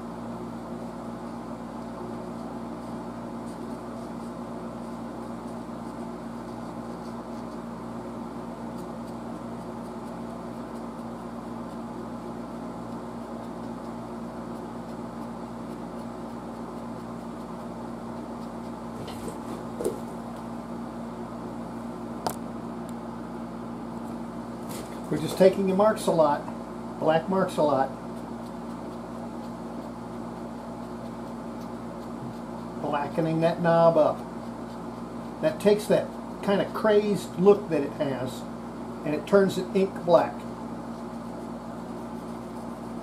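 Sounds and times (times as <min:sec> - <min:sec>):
machine hum: 0:00.0 - 0:43.0.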